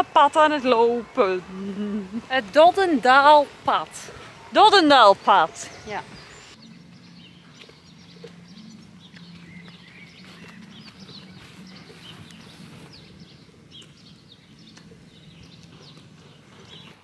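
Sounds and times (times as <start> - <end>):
birds chirping and singing: 0.0 - 17.0
distant engine drone: 0.0 - 17.0.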